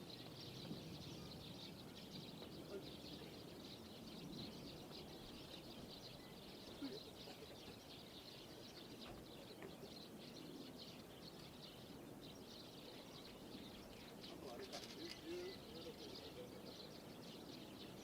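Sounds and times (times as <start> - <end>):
faint bird chirping: 0.0 - 18.0
faint distant voices: 0.0 - 18.0.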